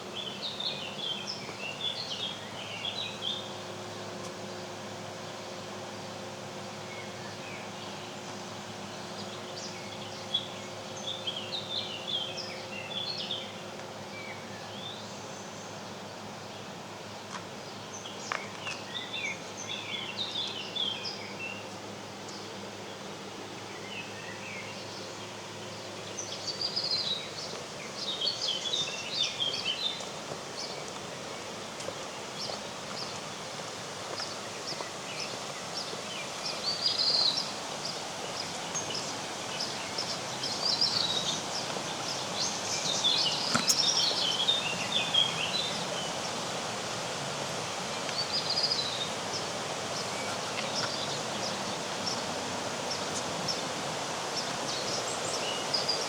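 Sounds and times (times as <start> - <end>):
songbirds twittering: 0.0 - 46.8, 47.6 - 56.0
outdoor background hiss: 0.0 - 56.0.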